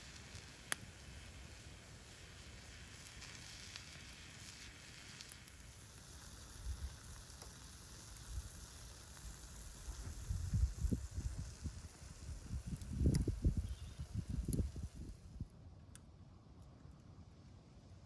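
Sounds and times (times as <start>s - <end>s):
food sizzling over campfire: 0.0s - 15.5s
faint fire crackles: 0.0s - 18.0s.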